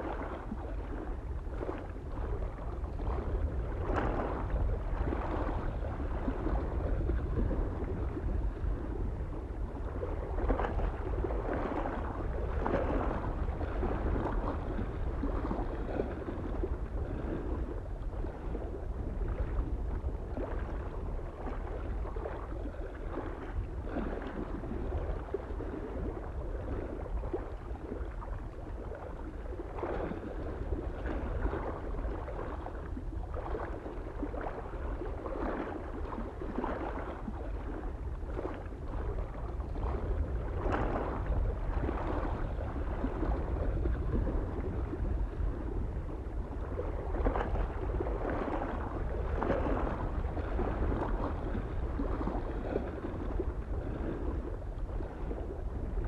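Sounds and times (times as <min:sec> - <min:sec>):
small waves lapping at shore: 0:00.0 - 0:56.0
soft wind rumble: 0:00.0 - 0:56.0.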